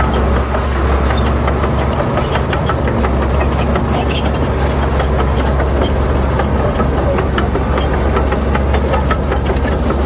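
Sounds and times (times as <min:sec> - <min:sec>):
heavy diesel engine running: 0:00.0 - 0:10.0
light clanks and clicks: 0:00.0 - 0:10.0.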